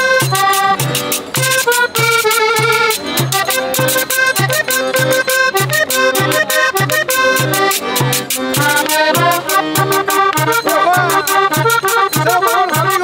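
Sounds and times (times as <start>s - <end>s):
cumbia music with accordion: 0.0s - 13.0s
percussion tick: 0.0s - 13.0s
steady bass beat: 0.0s - 13.0s.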